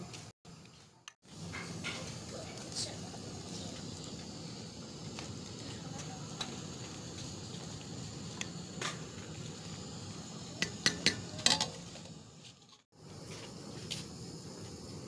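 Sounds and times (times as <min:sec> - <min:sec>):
steady hiss: 0:01.3 - 0:15.0.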